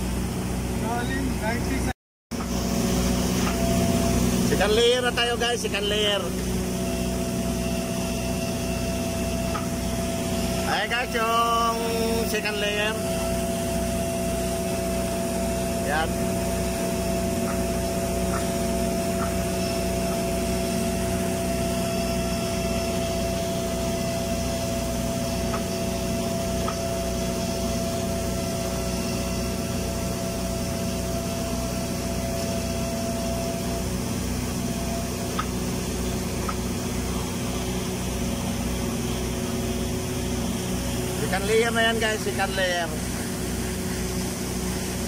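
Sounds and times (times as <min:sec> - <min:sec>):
welding machine hum: 0:02.4 - 0:45.0.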